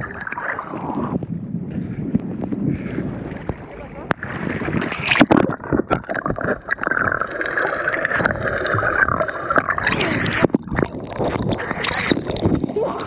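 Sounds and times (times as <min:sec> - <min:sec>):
muffled water sloshing underwater: 0:00.0 - 0:13.0.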